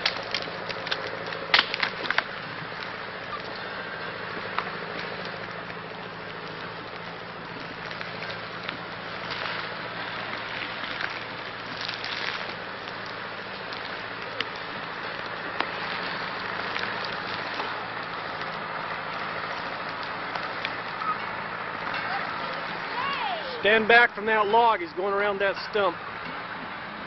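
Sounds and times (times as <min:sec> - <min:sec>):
twigs snapping: 0:00.0 - 0:22.9
branches rustling: 0:00.0 - 0:27.0
tractor engine humming: 0:00.0 - 0:27.0.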